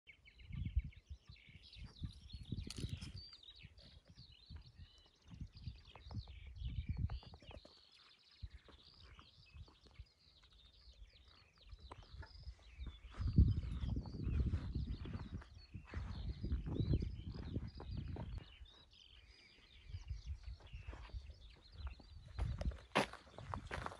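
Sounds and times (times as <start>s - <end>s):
small birds chirping: 0.1s - 23.9s.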